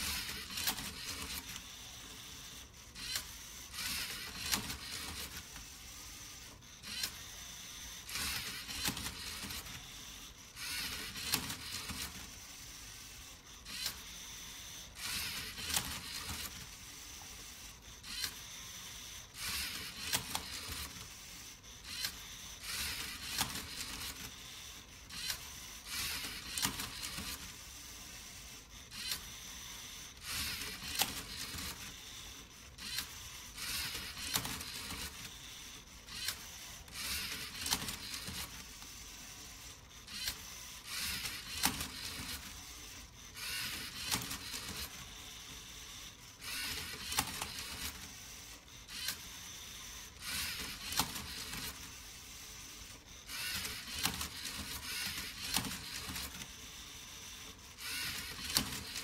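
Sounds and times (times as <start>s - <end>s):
motor and gear noise: 0.0s - 59.0s.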